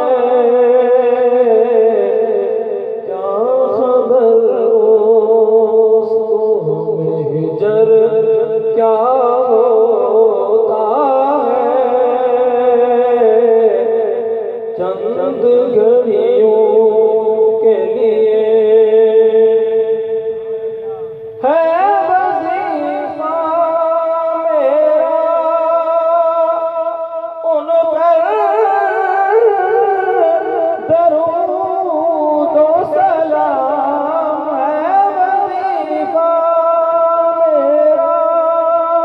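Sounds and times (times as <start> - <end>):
person singing devotional song: 0.0 - 39.0.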